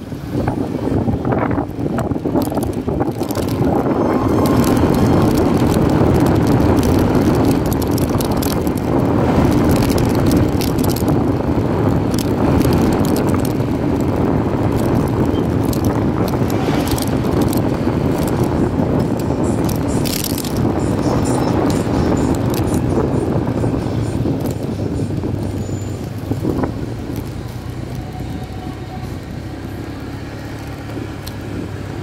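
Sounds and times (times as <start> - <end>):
wind buffeting microphone: 0.0 - 32.0
motorcycle engine: 1.0 - 32.0.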